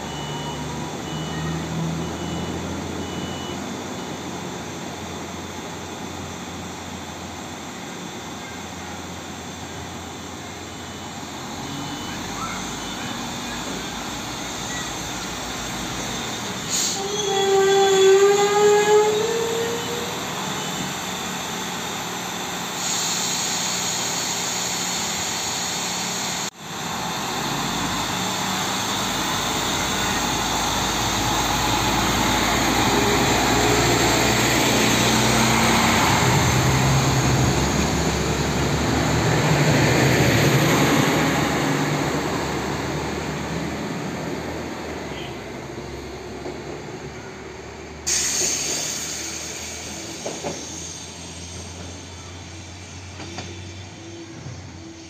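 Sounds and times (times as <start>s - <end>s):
diesel railcar engine rumbling: 0.0s - 55.0s.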